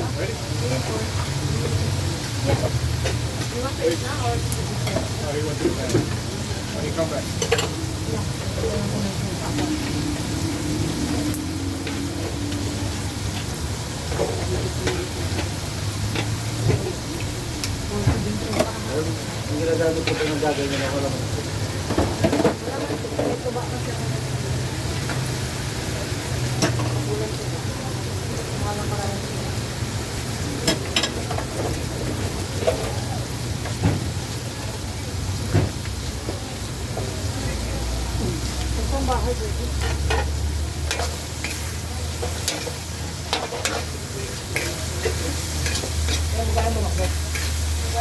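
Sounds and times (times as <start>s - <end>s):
rain hissing: 0.0s - 48.0s.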